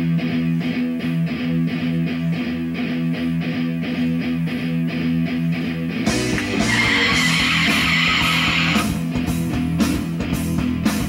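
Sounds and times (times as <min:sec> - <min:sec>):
guitar playing fast rhythm: 0:00.0 - 0:11.0.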